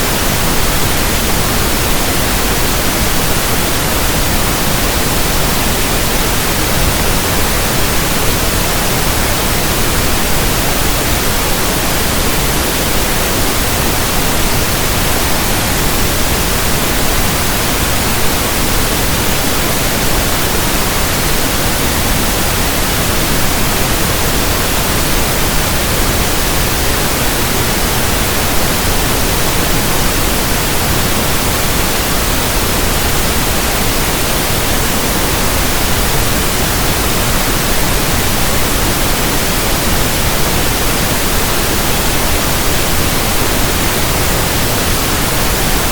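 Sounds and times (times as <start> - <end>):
pink noise hiss: 0.0 - 45.9.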